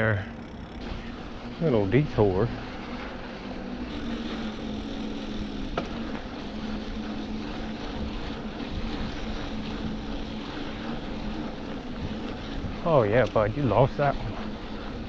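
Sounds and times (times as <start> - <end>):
bike rolling hum: 0.0 - 15.0.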